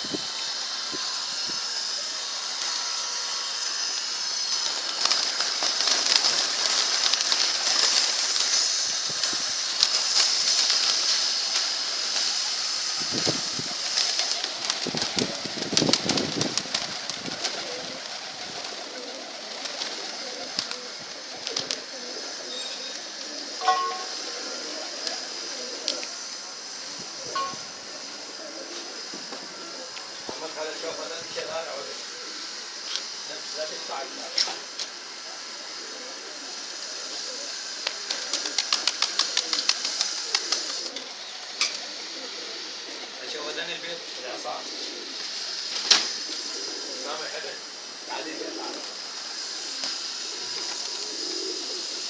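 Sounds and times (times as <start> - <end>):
pigeons cooing: 0.0 - 52.0
steady hiss: 0.0 - 52.0.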